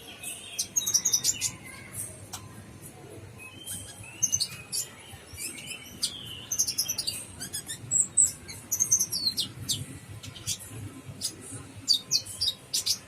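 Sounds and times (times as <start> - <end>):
bird singing high chirps and trills: 0.0 - 2.6, 3.3 - 13.0.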